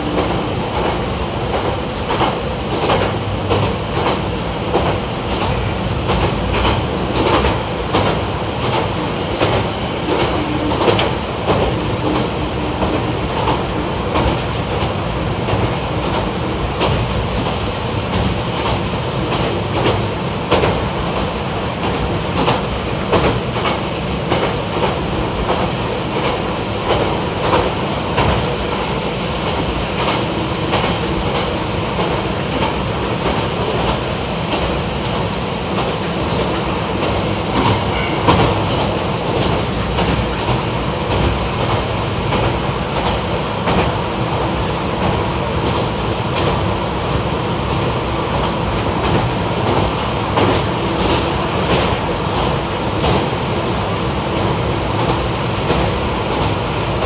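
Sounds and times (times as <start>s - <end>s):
railcar engine running: 0.0s - 57.0s.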